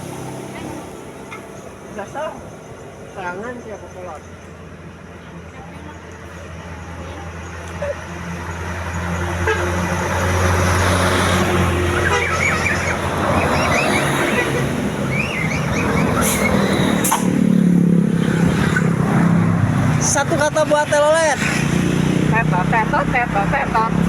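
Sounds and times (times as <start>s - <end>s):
bus engine passing: 0.0s - 24.0s.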